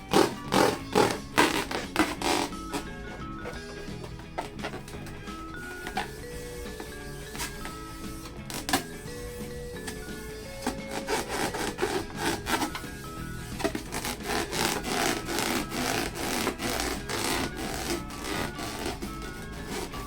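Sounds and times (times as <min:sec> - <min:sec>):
background music: 0:00.0 - 0:20.0
hands rubbing a balloon: 0:00.0 - 0:20.0.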